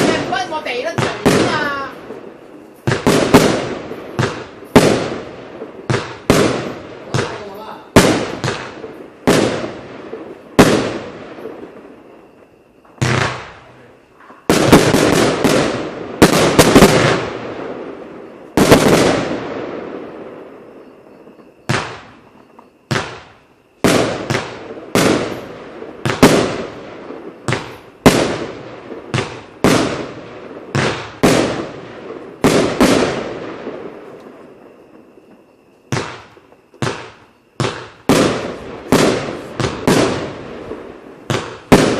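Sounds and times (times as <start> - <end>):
fireworks cake firing: 0.0 - 20.0, 20.6 - 41.9.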